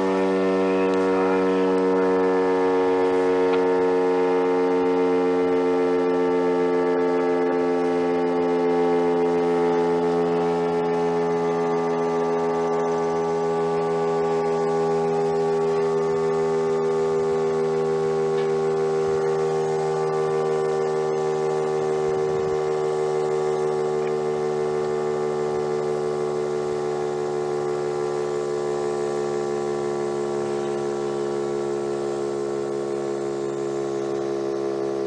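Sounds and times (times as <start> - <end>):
two-tone warning siren: 0.0 - 35.0.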